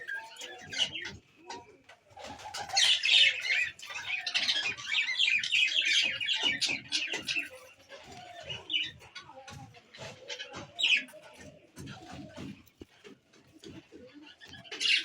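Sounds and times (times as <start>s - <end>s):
chickens calling and chirping: 0.0s - 15.0s.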